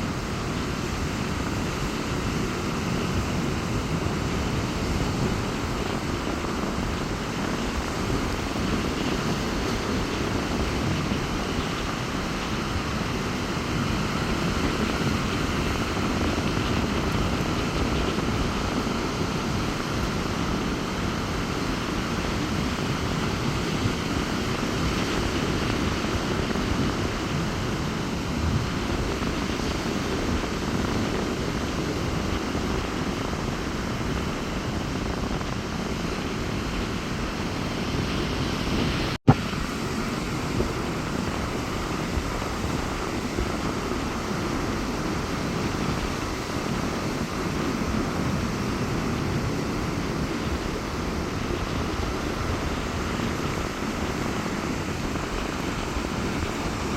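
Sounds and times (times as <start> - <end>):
sea surf washing onto beach: 0.0 - 56.9
wind rumbling on microphone: 0.0 - 56.9.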